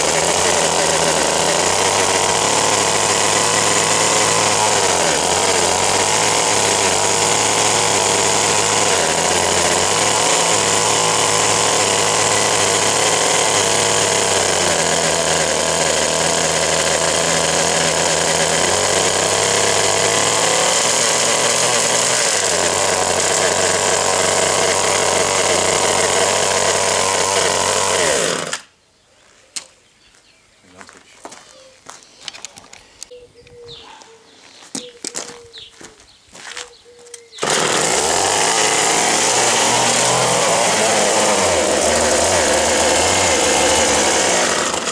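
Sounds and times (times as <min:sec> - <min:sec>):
hedge trimmer engine running: 0:00.0 - 0:28.7, 0:37.4 - 0:44.9.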